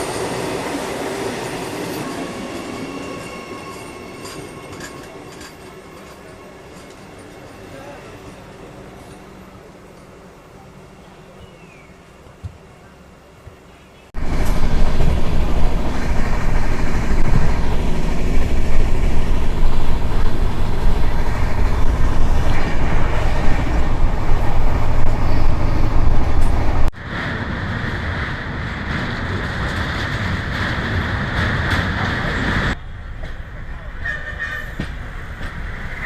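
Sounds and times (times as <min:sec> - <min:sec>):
hissy rush of moving train: 0:00.0 - 0:12.4, 0:14.2 - 0:36.0
train rumbling along track: 0:00.0 - 0:36.0.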